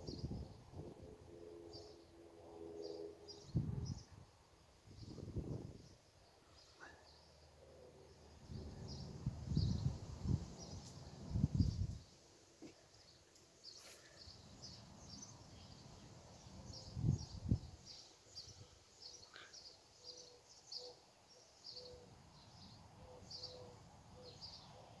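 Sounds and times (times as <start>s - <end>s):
small birds chirping: 5.0s - 25.0s.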